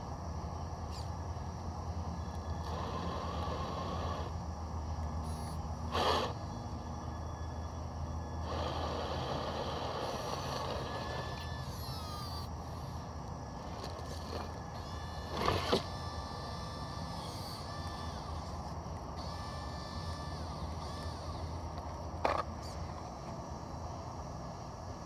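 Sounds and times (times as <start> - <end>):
electric winch whirring: 0.0 - 25.0
low steady hum: 0.0 - 25.0.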